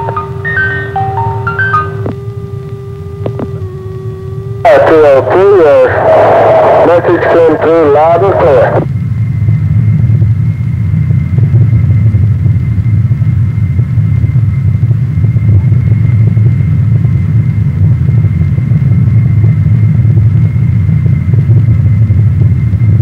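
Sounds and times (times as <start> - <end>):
aircraft engines droning: 0.0 - 23.0
faint high whine: 0.0 - 23.0.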